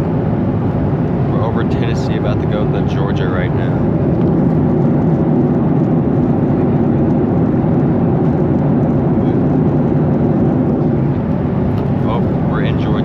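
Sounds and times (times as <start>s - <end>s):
airliner cabin roar: 0.0s - 13.0s.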